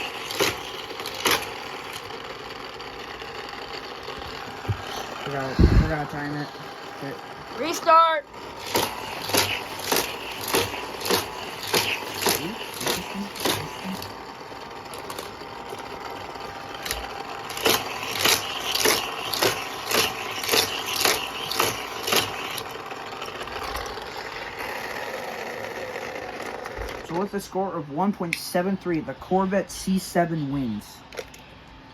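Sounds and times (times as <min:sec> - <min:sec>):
toy cars clacking: 0:00.0 - 0:27.3
toy track motor whirring: 0:00.0 - 0:27.8.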